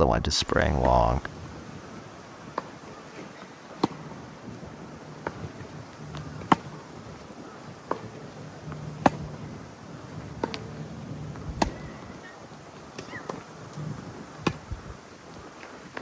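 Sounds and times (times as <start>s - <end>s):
tennis ball bounces: 0.8s - 9.5s, 10.1s - 14.8s.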